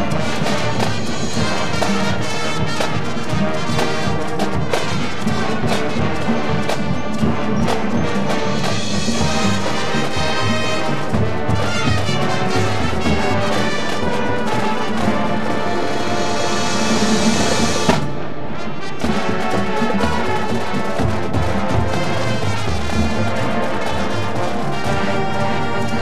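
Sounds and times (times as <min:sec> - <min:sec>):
drum line percussion hits: 0:00.0 - 0:26.0
marching band brass: 0:00.0 - 0:26.0.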